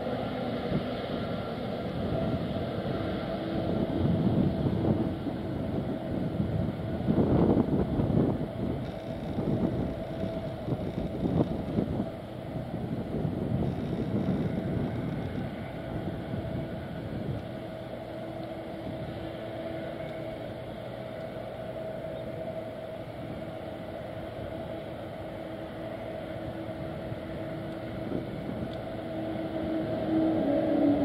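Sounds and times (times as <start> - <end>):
jet engines whining and rumbling: 0.0 - 31.0.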